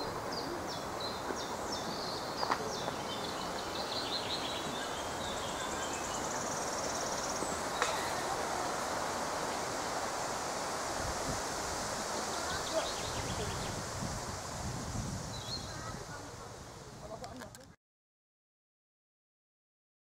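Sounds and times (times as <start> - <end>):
background hiss: 0.0 - 17.8
small birds chirping: 0.1 - 10.6, 11.8 - 17.7.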